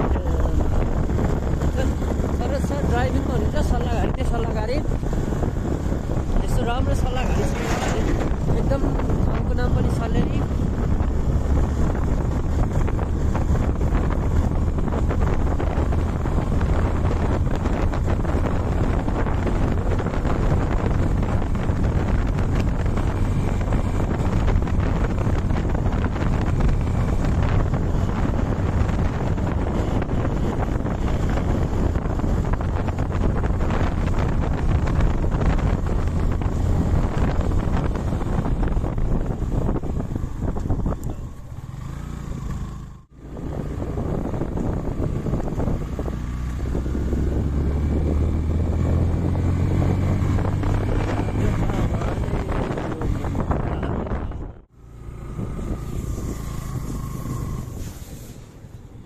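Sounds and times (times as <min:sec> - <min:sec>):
motorcycle engine running: 0:00.0 - 0:57.9
wind rush on microphone: 0:00.0 - 0:59.0.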